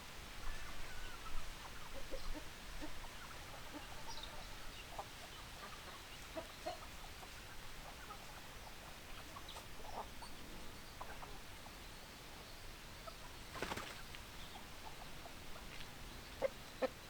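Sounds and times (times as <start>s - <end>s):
faint steady hiss: 0.0s - 17.0s
chickens clucking softly: 0.4s - 17.0s.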